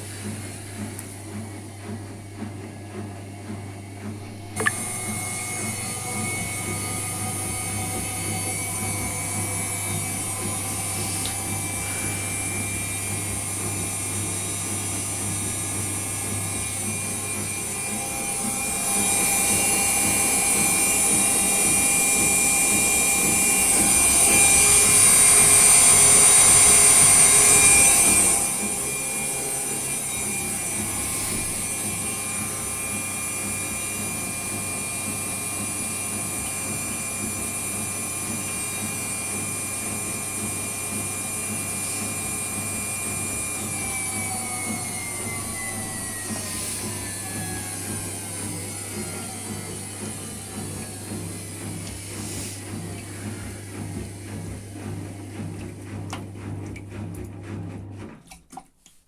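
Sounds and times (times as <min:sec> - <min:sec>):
washing machine humming and whirring: 0:00.0 - 0:59.0.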